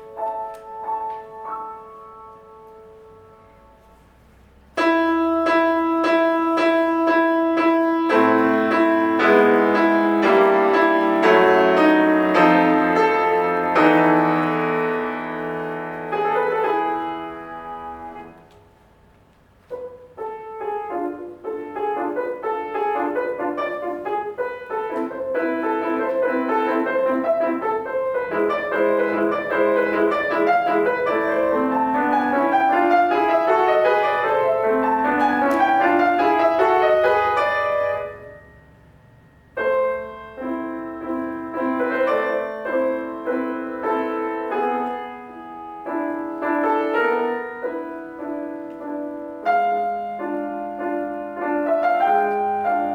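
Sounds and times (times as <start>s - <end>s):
solo classical piano: 0.0s - 52.9s.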